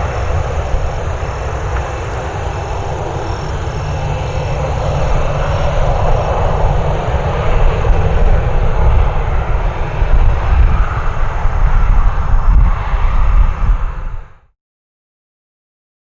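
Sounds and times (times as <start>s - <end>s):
jet engines roaring: 0.0s - 14.5s.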